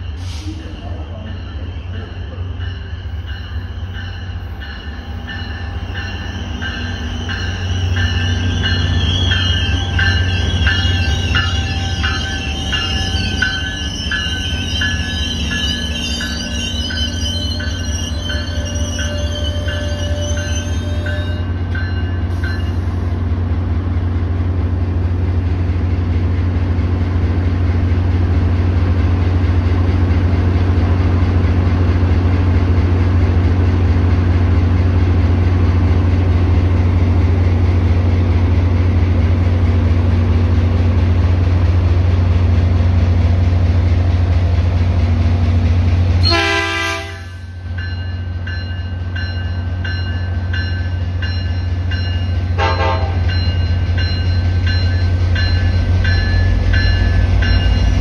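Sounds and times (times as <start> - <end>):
diesel locomotive idling: 0.0 - 58.0.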